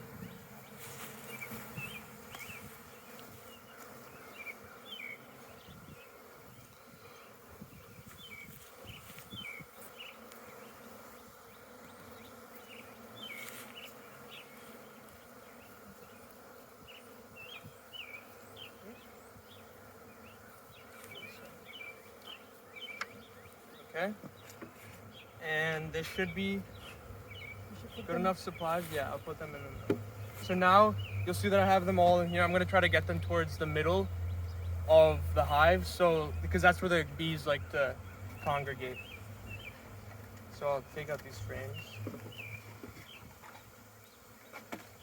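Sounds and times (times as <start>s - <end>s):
honeybees buzzing: 0.0s - 45.0s.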